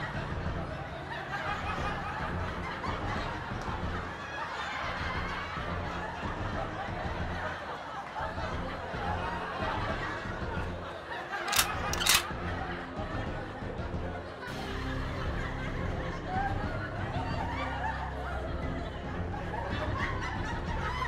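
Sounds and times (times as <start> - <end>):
canned audience laughter: 0.0 - 21.0.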